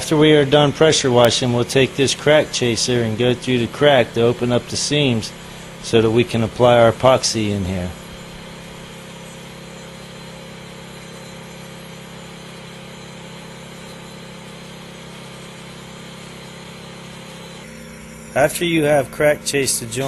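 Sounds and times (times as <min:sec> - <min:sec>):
concrete grinder humming: 0:00.0 - 0:20.0.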